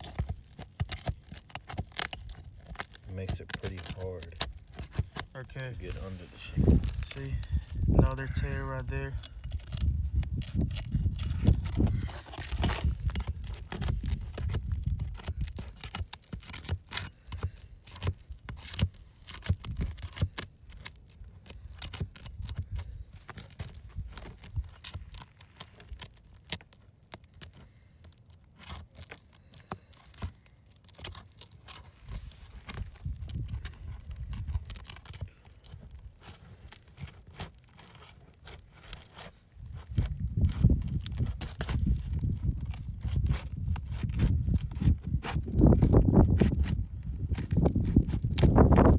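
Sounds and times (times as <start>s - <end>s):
shingles crackling and tearing: 0.0s - 48.9s
tool scraping under shingles: 0.0s - 48.9s.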